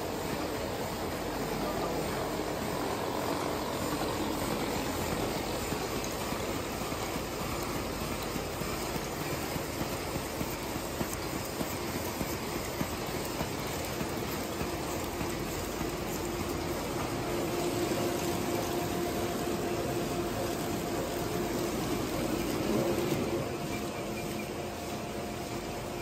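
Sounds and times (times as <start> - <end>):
packaging machine whirring: 0.0 - 26.0.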